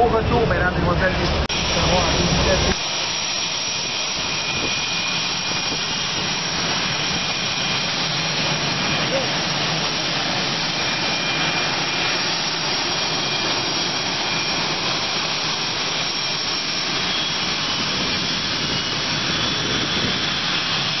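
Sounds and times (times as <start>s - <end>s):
jet engines taxiing with high whine: 0.0s - 21.0s.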